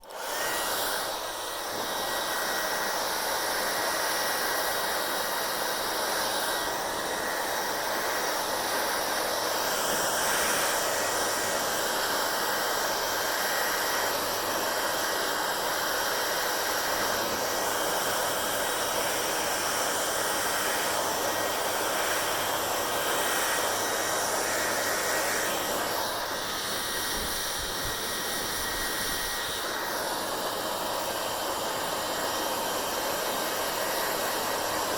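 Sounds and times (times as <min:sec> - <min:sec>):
hair dryer blowing air: 0:00.0 - 0:34.9.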